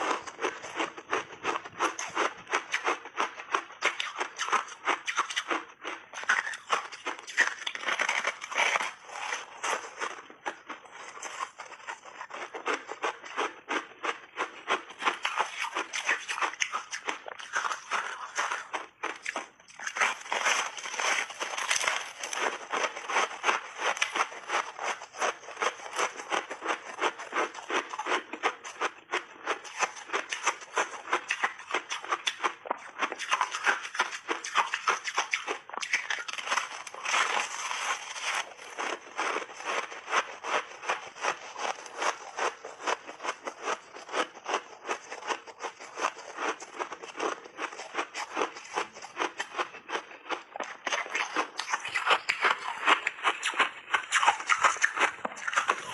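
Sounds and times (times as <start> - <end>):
person chewing crunchy ice: 0.0 - 55.9.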